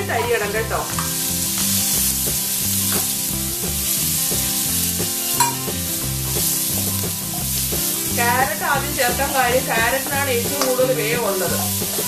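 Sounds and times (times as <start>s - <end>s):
vegetables sizzling in oil: 0.0s - 12.0s
spatula scraping and knocking pan: 0.3s - 12.0s.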